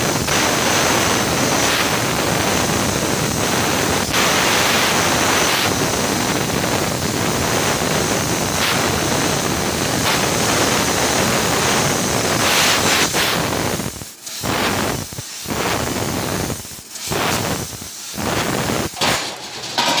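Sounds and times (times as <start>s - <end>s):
laser cutter gas jet hissing: 0.0s - 19.9s.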